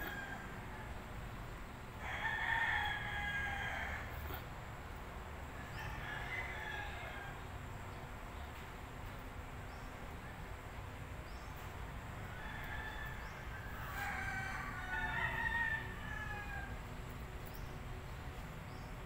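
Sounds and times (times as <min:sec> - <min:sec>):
low outdoor background noise: 0:00.0 - 0:19.0.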